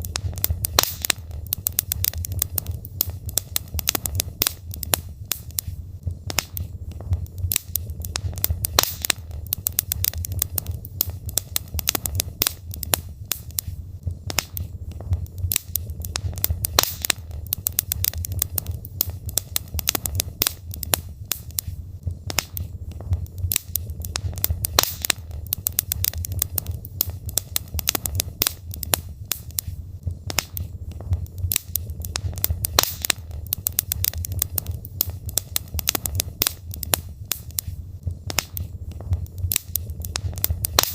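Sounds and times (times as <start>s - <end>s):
wood logs crackling in fireplace: 0.0s - 40.9s.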